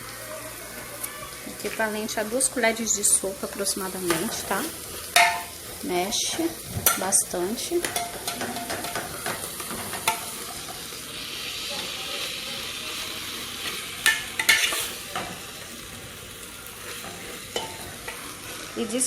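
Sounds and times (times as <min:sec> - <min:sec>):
pie filling sizzling in a pan: 0:00.0 - 0:19.0.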